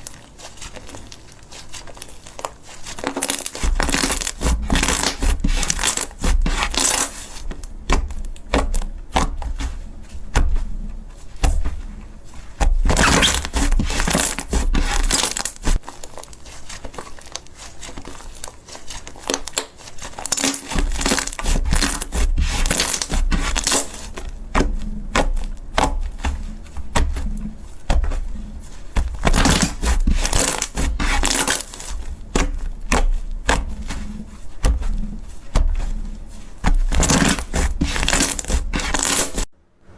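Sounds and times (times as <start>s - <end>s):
slime crackling and crunching: 0.0s - 39.5s.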